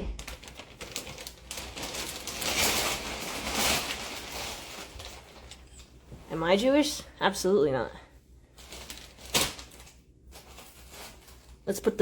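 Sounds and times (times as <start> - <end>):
plastic bag rustling and crinkling: 0.0 - 7.0, 8.4 - 12.0.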